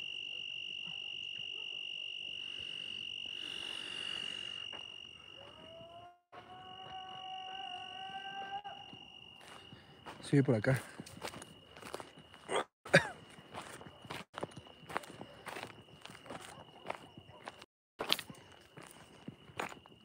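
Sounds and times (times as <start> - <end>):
insects trilling: 0.0 - 17.6.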